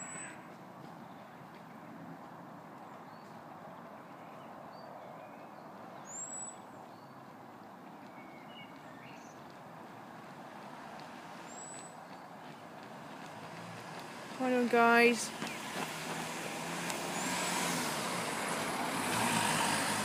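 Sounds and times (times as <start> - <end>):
birds chirping: 0.0 - 20.0
distant road traffic hum: 0.0 - 20.0.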